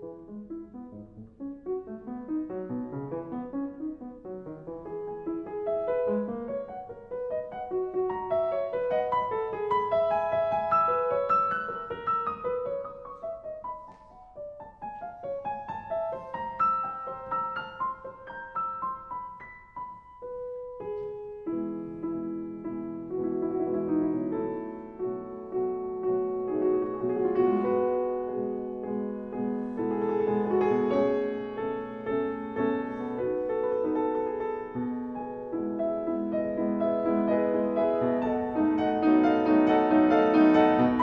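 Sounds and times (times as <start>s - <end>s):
piano music: 0.0s - 41.0s.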